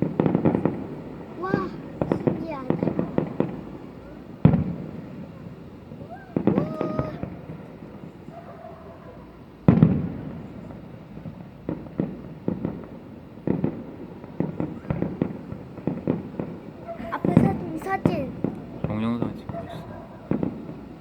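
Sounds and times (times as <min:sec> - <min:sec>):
small firework pops: 0:00.0 - 0:08.3, 0:09.6 - 0:21.0
fireworks bangs: 0:00.0 - 0:21.0
fireworks crackling: 0:00.0 - 0:21.0.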